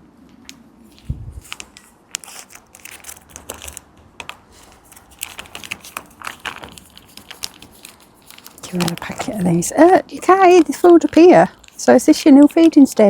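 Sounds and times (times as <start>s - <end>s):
plastic packets crinkling: 0.9s - 13.0s.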